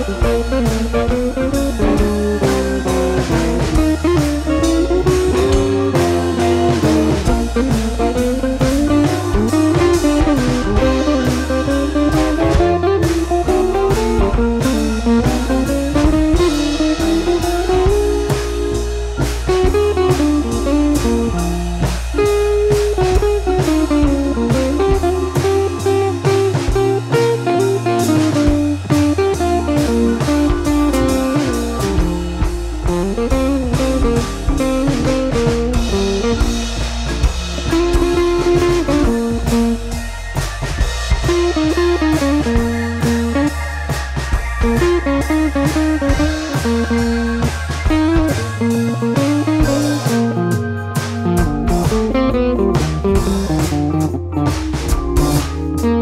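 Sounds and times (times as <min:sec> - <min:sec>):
blues guitar tune: 0:00.0 - 0:56.0
steady drum beat: 0:00.0 - 0:56.0.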